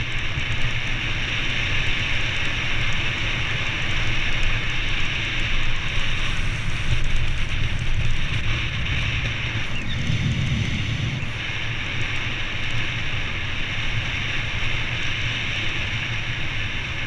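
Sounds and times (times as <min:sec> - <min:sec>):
bicycle tyres on paved road: 0:00.0 - 0:17.0
wind rush: 0:00.0 - 0:17.0.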